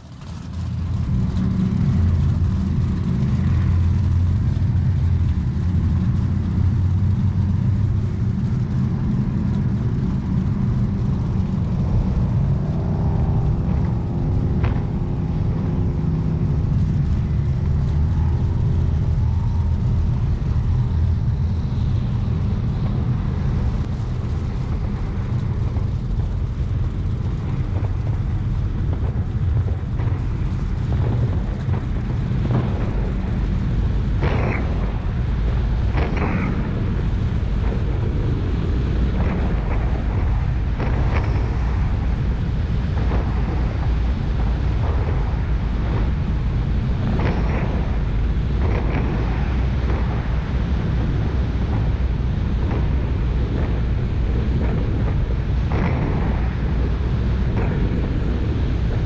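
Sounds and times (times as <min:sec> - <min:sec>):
powerboat engines rumbling: 0:00.0 - 0:59.0.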